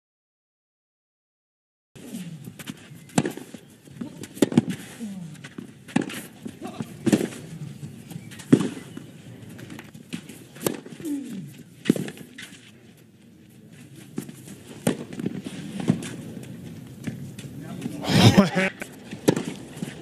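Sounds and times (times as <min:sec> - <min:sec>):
racket hitting tennis ball: 0:02.0 - 0:12.8, 0:13.8 - 0:20.0.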